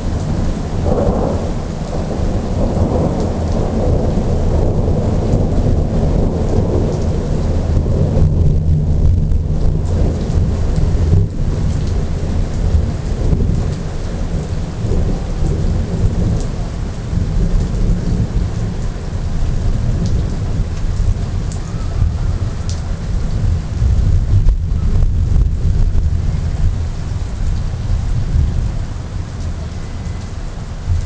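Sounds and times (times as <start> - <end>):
rain falling: 0.0 - 31.0
thunder rumbling: 0.0 - 31.0.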